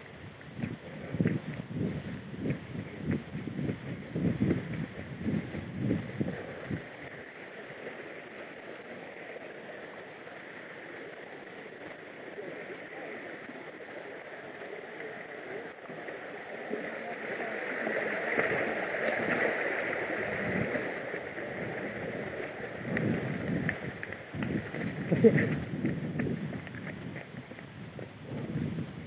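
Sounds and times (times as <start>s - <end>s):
stream rushing over rocks: 2.4s - 27.4s.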